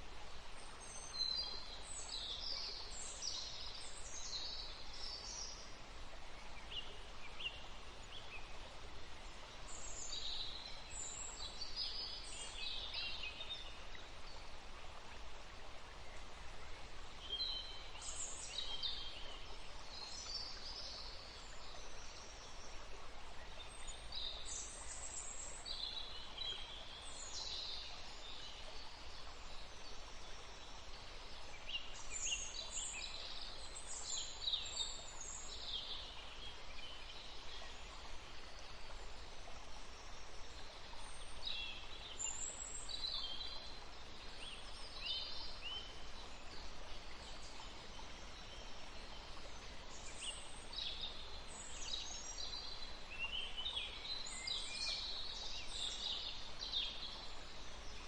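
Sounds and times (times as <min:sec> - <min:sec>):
faint outdoor background noise: 0:00.0 - 0:58.0.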